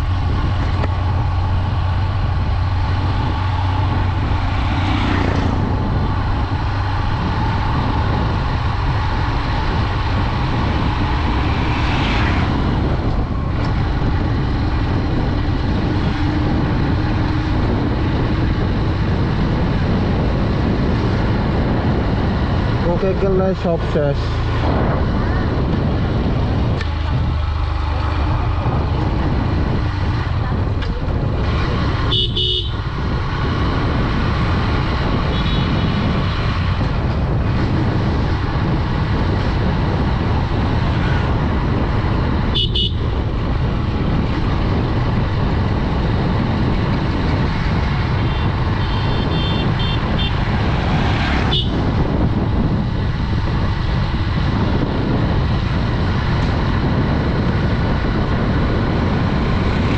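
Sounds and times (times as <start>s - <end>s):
motorcycle engine running: 0.0s - 22.8s, 24.3s - 59.9s
road noise: 0.0s - 59.9s.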